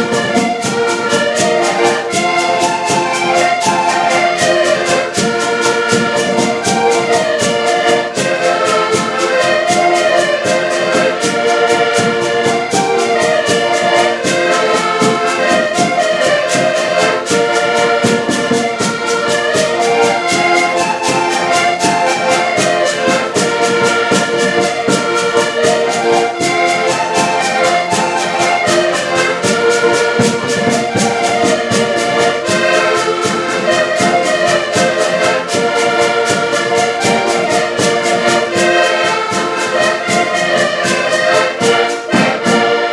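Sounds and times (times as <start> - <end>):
band playing: 0.0 - 42.9.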